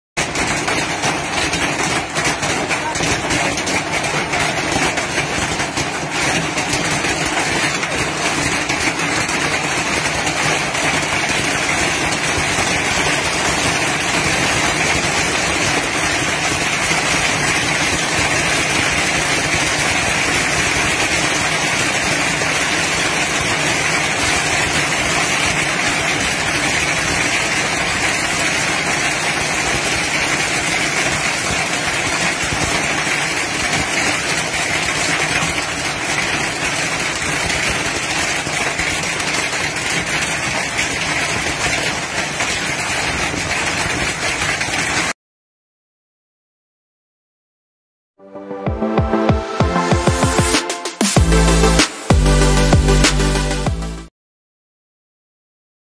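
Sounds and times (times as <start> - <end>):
hailstones falling: 0.2 - 45.2.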